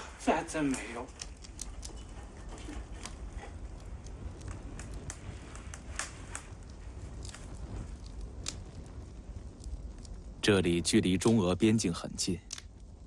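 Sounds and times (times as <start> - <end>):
fire popping and snapping: 0.0 - 13.0
low steady rumble: 0.0 - 13.0
wood fire crackling: 0.0 - 13.0.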